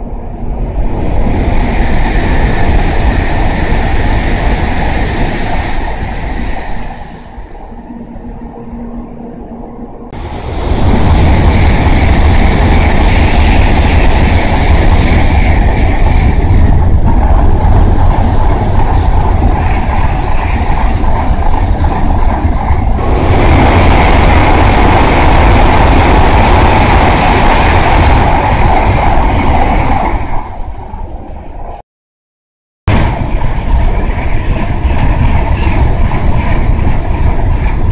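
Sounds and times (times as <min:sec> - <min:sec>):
high-speed train passing: 0:00.0 - 0:31.8, 0:32.9 - 0:37.9.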